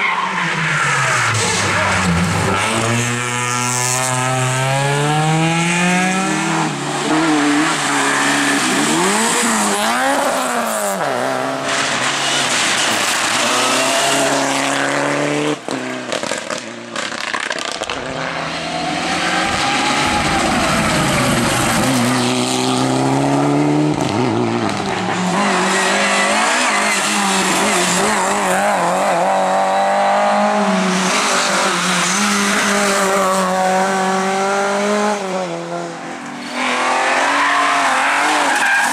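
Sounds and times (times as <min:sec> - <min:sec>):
rally car engines revving hard: 0:00.6 - 0:38.9.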